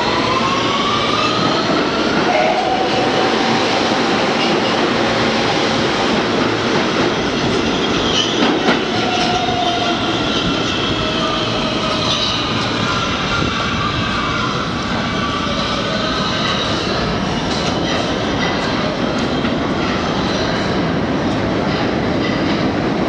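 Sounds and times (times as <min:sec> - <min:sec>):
steel wheels rushing on rail: 0:00.0 - 0:23.0.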